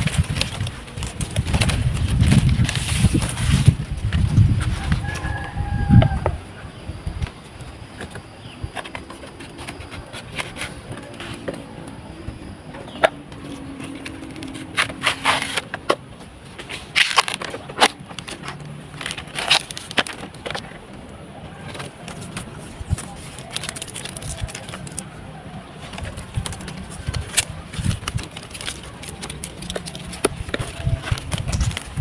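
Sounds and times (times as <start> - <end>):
crackling and scraping on palm: 0.0 - 6.4, 7.9 - 12.0, 12.8 - 16.0, 16.6 - 20.9, 21.6 - 32.0.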